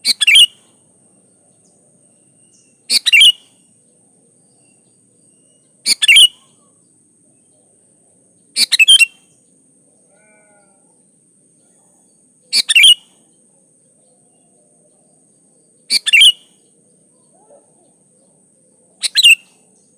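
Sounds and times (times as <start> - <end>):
bulbul singing: 0.0 - 9.6, 11.6 - 19.9.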